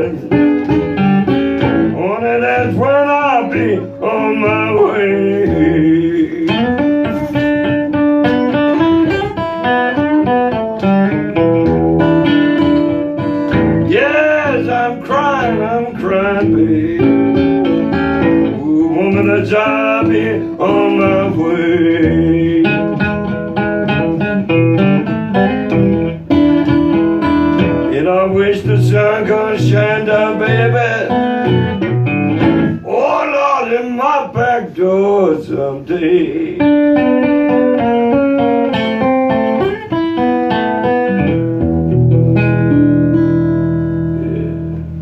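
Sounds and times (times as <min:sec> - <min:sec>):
guitar playing blues: 0:00.0 - 0:45.0.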